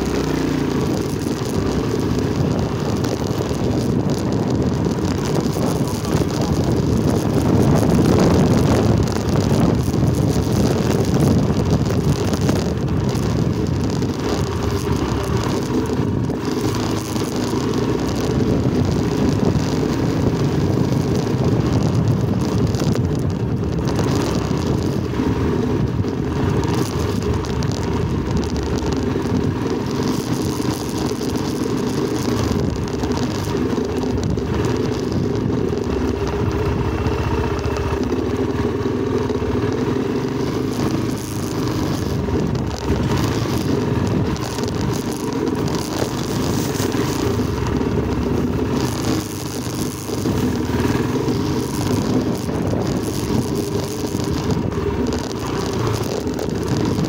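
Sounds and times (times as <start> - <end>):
vehicle rumbling over dirt track: 0.0 - 57.0
wind buffeting microphone: 0.0 - 57.0.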